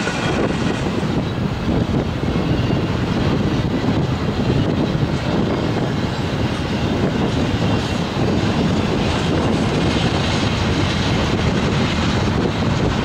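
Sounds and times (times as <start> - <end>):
freight train wheels on rail: 0.0 - 13.0.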